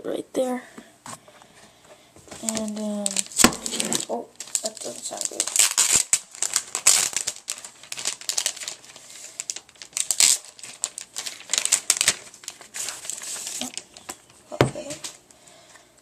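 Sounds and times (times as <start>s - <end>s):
plastic wrapping crinkling: 2.3s - 15.3s.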